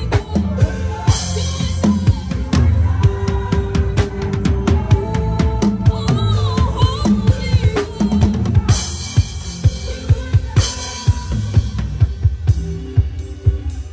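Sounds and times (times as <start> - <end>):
drum kit groove: 0.0 - 13.9.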